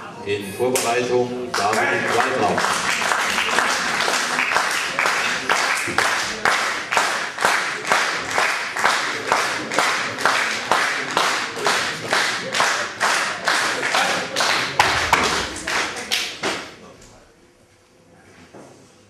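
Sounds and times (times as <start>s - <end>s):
audience clapping in unison: 1.5s - 16.8s.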